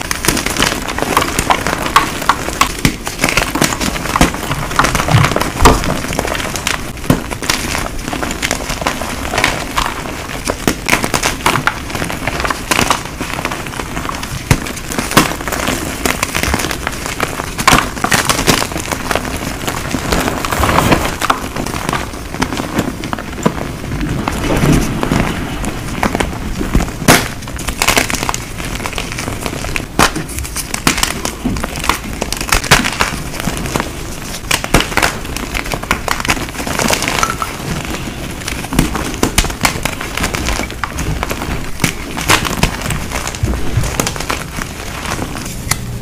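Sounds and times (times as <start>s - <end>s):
chalk crunching and crackling: 0.0s - 46.0s.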